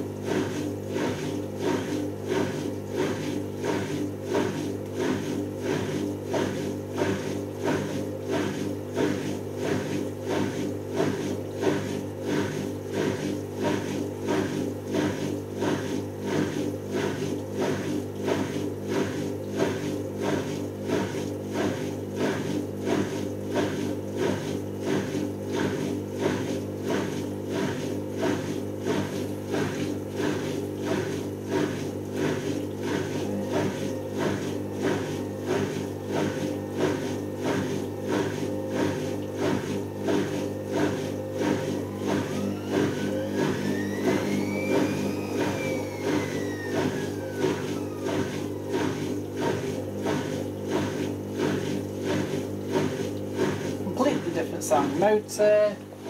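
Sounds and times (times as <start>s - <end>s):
washing machine motor humming: 0.0s - 56.0s.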